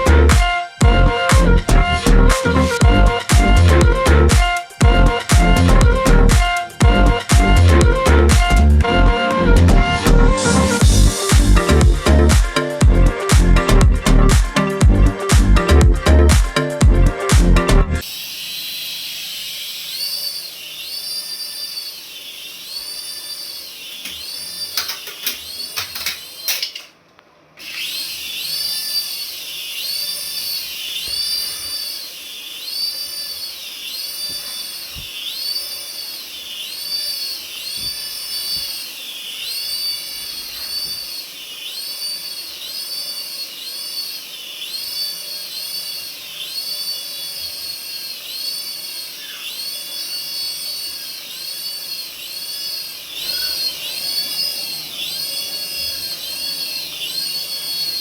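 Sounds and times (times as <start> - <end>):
toy electronic whine: 0.0 - 26.9, 27.6 - 58.0.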